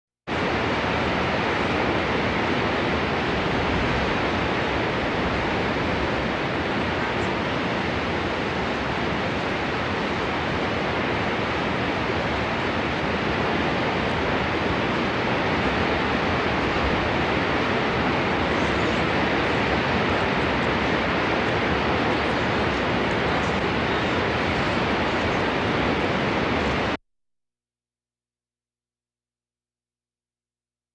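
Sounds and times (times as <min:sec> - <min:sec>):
waterfall roaring: 0:00.3 - 0:27.0.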